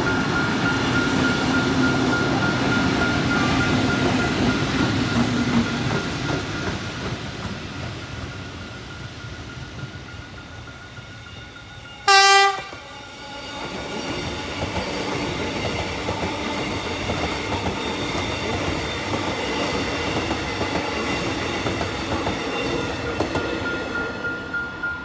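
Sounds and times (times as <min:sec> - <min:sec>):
train wheels running on rails: 0:00.0 - 0:25.0.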